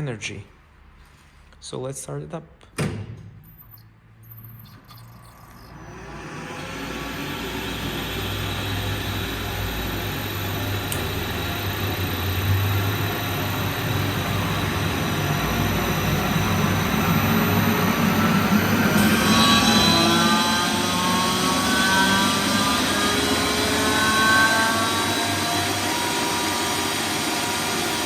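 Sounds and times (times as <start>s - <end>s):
air compressor humming: 4.5s - 28.0s.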